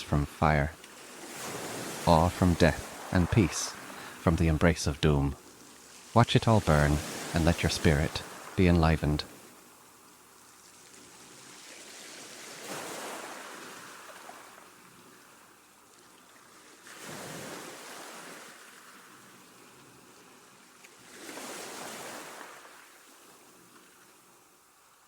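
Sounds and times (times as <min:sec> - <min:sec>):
sea waves breaking: 0:00.0 - 0:15.4, 0:16.5 - 0:19.5, 0:21.0 - 0:23.3.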